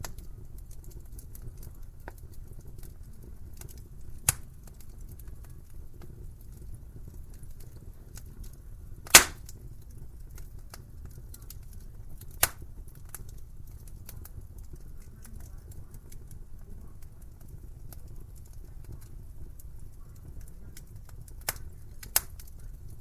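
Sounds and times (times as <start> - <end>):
fire crackling: 0.0 - 23.0
low rumble of flames: 0.0 - 23.0
sharp pops of fire: 0.0 - 23.0.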